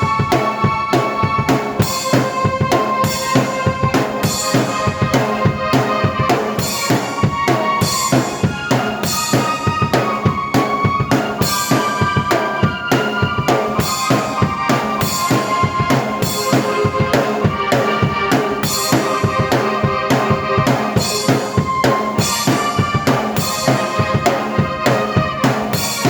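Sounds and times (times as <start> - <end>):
drum kit playing rhythm: 0.0 - 26.0
keyboard tones: 0.0 - 26.0.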